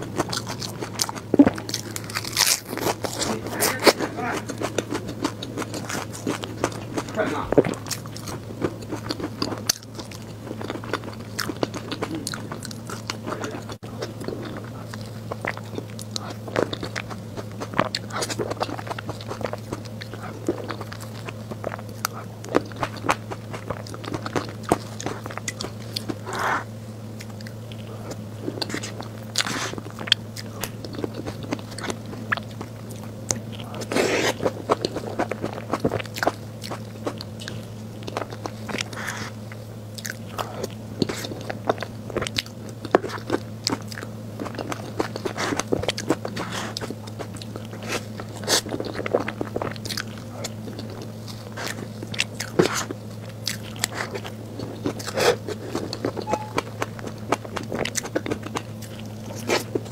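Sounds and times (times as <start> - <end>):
chewing and biting cake: 0.0 - 59.9
low hum: 0.0 - 59.9.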